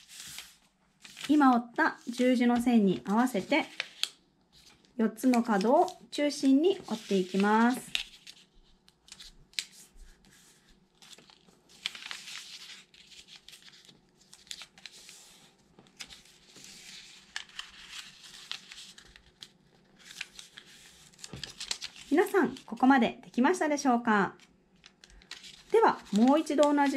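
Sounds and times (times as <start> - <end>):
paper rustling and crackling: 0.0 - 22.8, 24.4 - 26.9.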